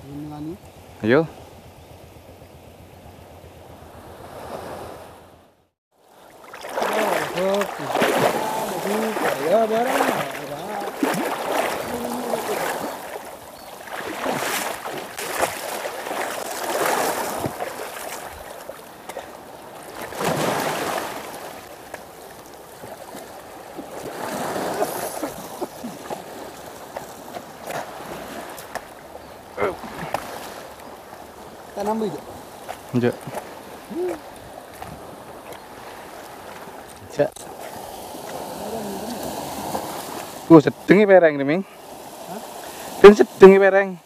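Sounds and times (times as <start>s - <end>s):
seawater splashing and sloshing: 3.9s - 40.9s.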